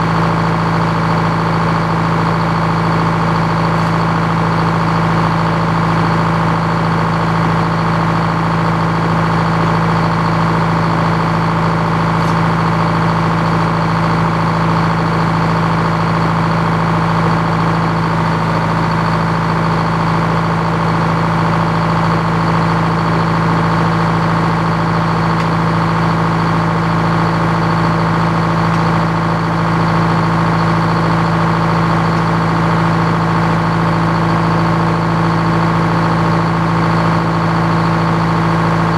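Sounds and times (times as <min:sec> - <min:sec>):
sawmill engine humming: 0:00.0 - 0:38.9.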